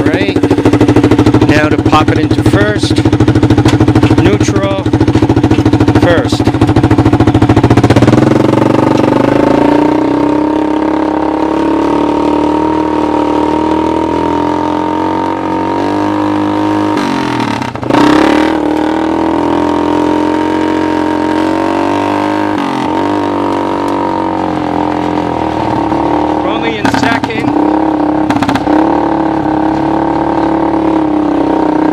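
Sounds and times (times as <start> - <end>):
golf cart engine running: 0.0 - 31.9.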